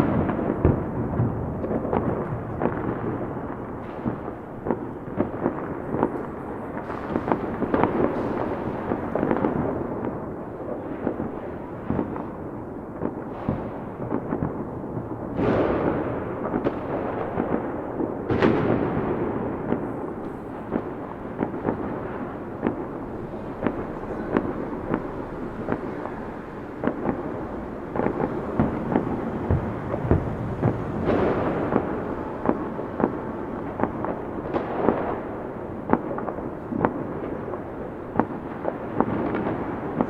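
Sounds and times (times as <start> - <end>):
fireworks booms: 0.0 - 40.0
fireworks cracking and popping: 0.0 - 40.0.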